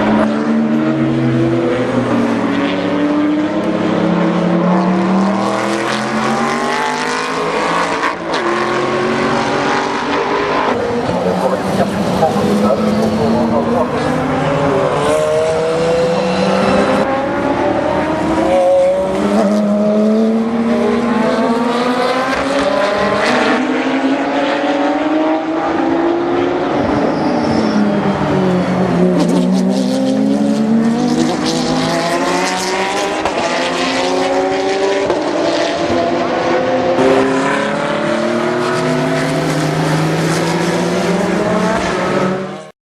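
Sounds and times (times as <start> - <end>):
racing car engines at full throttle: 0.0 - 42.7.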